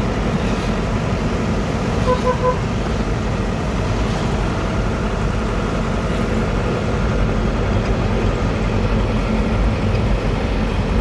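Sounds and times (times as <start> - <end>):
tyres on wet road: 0.0 - 11.0
vehicle engine and road noise: 0.0 - 11.0.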